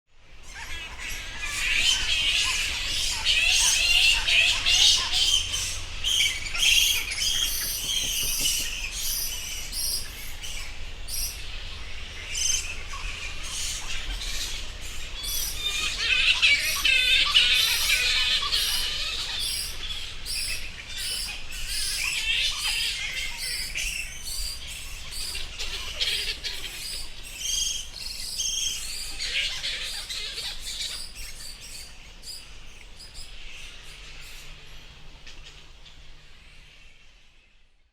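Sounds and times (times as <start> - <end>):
bats squeaking and chirping: 0.4 - 34.5.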